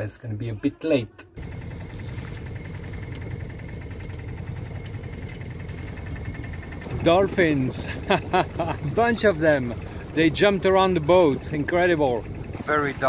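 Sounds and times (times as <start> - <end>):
boat diesel engine running: 1.3 - 13.0.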